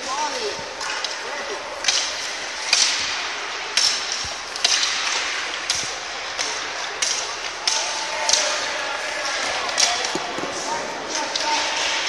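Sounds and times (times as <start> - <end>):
hockey sticks and pucks clacking: 0.0 - 12.0.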